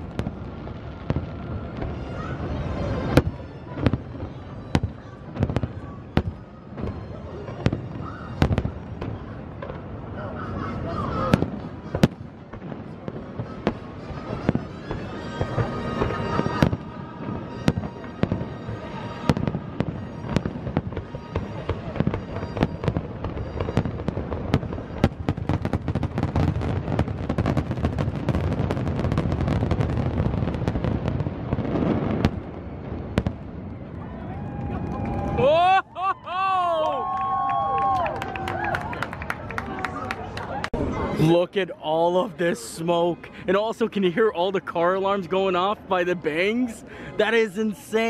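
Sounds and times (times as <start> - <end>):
fireworks bursting and crackling: 0.0 - 48.0.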